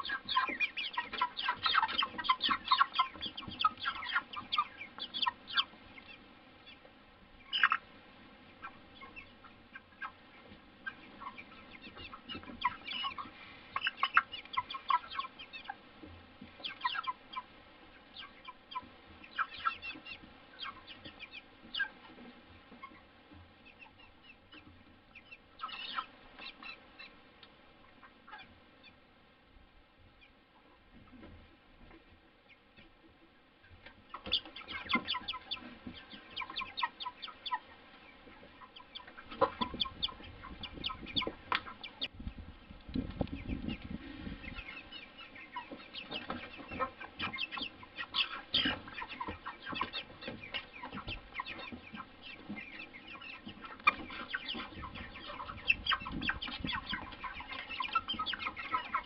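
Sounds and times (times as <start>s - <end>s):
chickens clucking and peeping: 0.0s - 59.0s.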